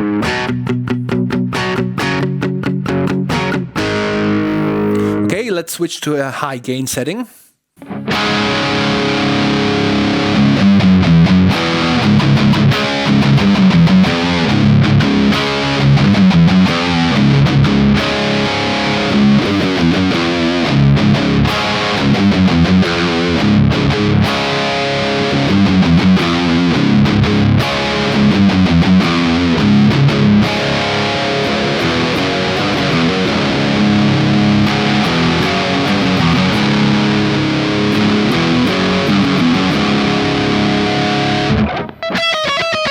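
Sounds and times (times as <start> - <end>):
distorted electric guitar riffs: 0.0 - 5.3, 7.8 - 42.9.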